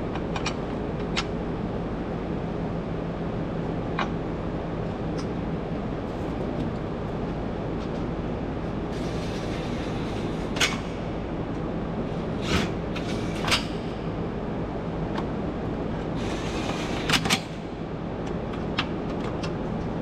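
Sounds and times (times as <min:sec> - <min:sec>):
shop noise hum: 0:00.0 - 0:20.0.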